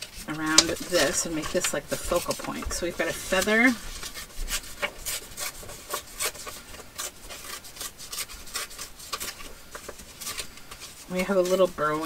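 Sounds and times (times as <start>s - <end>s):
paper rustling and scraping: 0.0s - 12.0s.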